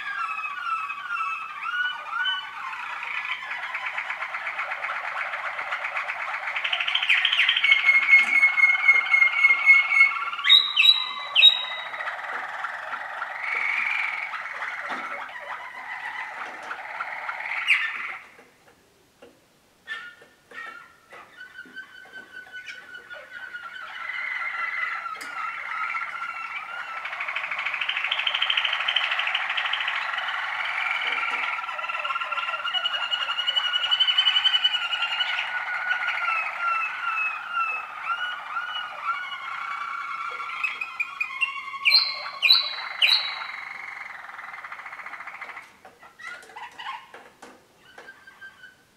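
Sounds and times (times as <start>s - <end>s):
canaries singing: 0.0s - 18.8s, 19.8s - 48.9s.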